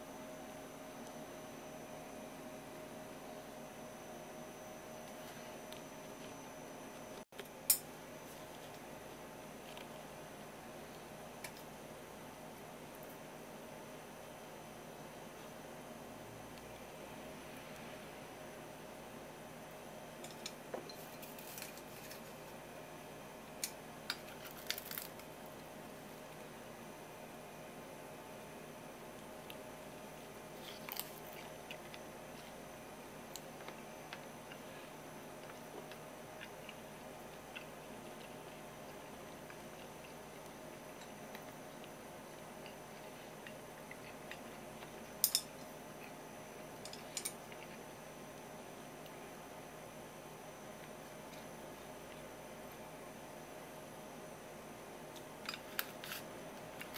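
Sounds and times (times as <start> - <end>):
faint hum: 0.0 - 56.9.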